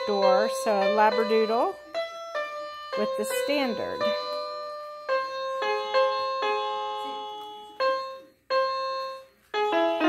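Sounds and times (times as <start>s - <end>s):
piano mat notes: 0.0s - 10.0s.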